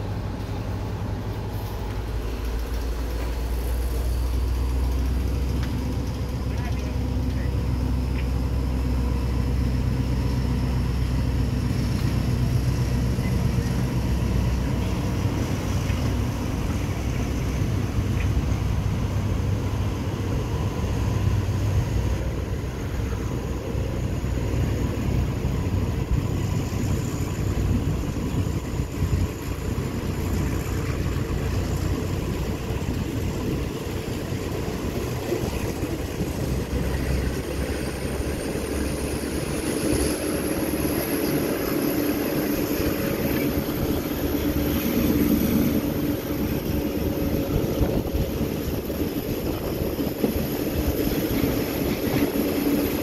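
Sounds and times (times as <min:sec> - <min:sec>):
train engine drone: 0:00.0 - 0:53.0
wheels rumbling on rails: 0:00.0 - 0:53.0.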